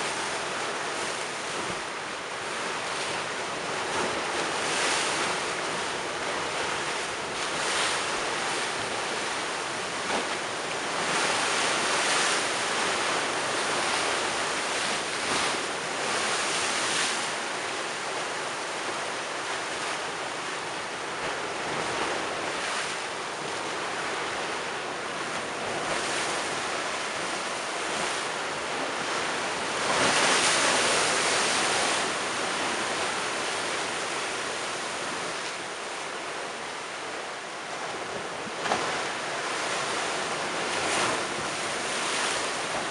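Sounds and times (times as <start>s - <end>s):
waves crashing against seawall: 0.0s - 42.9s.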